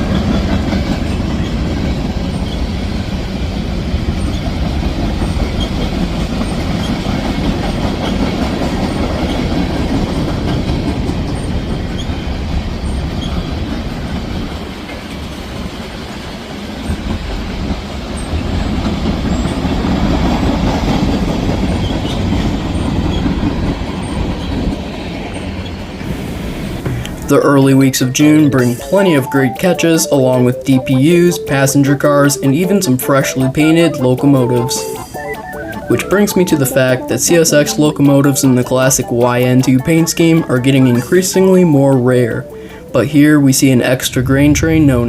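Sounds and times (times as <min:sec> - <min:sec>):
freight train wheels rumbling: 0:00.0 - 0:29.2, 0:31.1 - 0:45.0.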